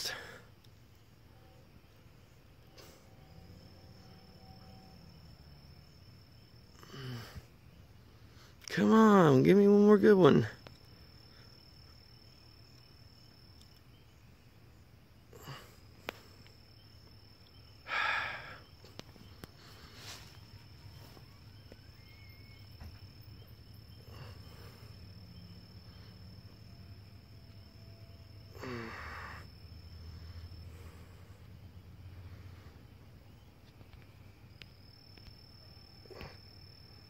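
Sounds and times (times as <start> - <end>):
crickets trilling: 0.0 - 37.0
faint low hum: 0.0 - 37.0.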